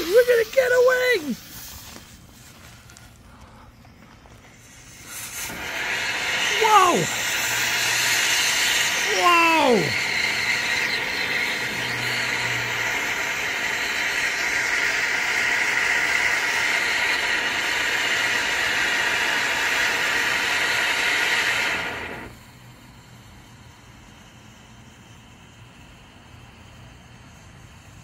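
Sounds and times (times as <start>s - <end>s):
fountain firework hissing: 0.0s - 28.0s.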